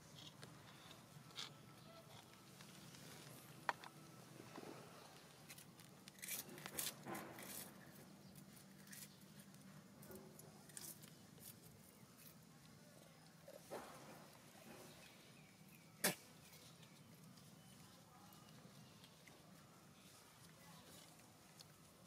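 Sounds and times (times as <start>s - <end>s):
faint rustles and scrapes: 0.0s - 22.0s.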